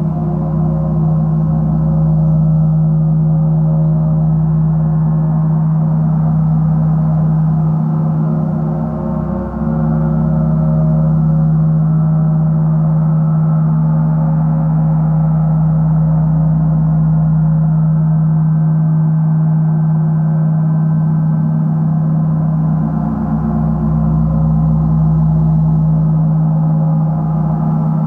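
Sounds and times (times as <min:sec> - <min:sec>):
gong sustained wash: 0:00.0 - 0:28.0.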